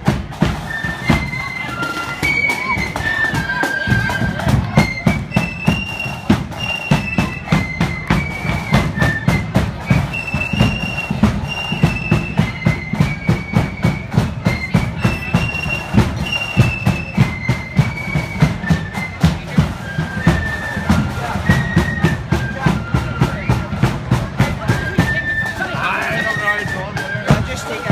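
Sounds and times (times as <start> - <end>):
flutes playing melody: 0.0 - 27.9
snare drum strokes: 0.0 - 27.9.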